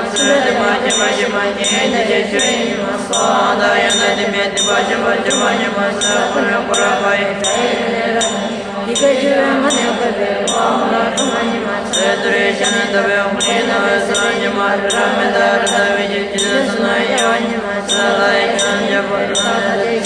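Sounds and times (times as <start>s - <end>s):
mantra chanting: 0.0s - 20.0s
high metallic strike: 0.2s - 19.6s.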